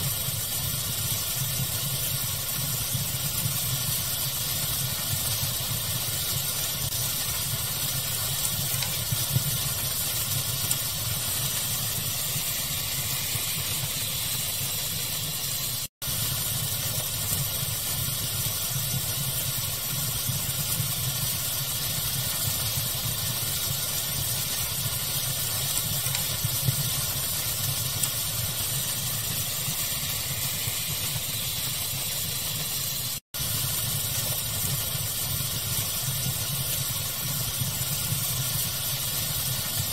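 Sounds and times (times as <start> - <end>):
fire crackles: 0.0 - 39.9
pink noise hiss: 0.0 - 39.9.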